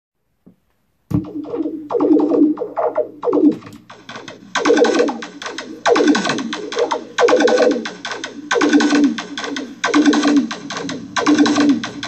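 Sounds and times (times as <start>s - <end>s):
steady low hum: 1.1s - 12.0s.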